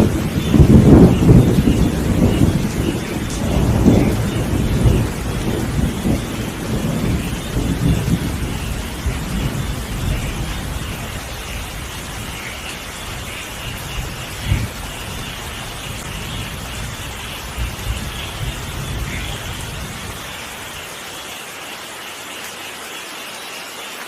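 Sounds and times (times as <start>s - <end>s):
thunder rumbling: 0.0s - 20.8s
rain falling: 0.0s - 24.0s.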